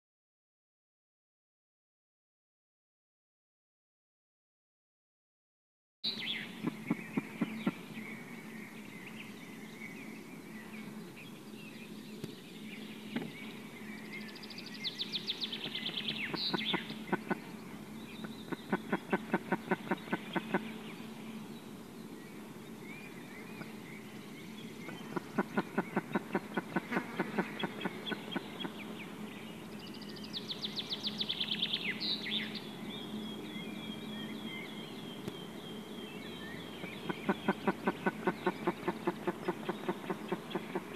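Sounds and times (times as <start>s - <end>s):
steady low hum: 6.1s - 40.9s.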